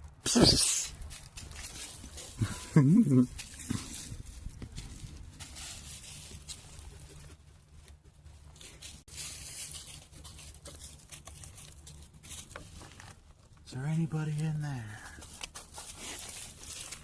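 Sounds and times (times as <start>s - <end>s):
dog digging in dirt and leaves: 0.3s - 17.0s.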